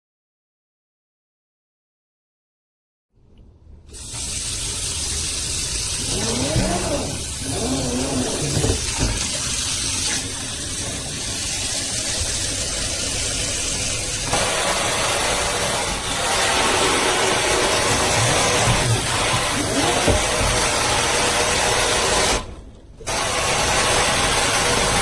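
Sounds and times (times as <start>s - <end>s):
water running into sink: 3.9s - 25.0s.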